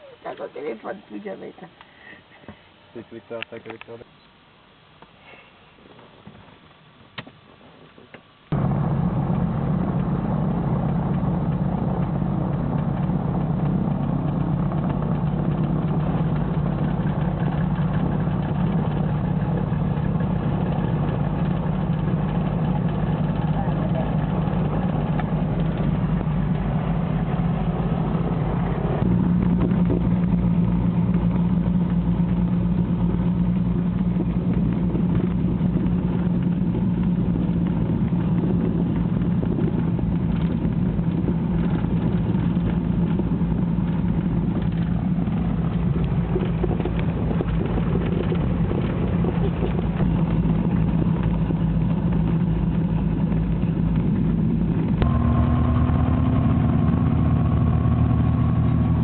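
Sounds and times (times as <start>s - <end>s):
small plane engine drone: 8.1s - 59.0s.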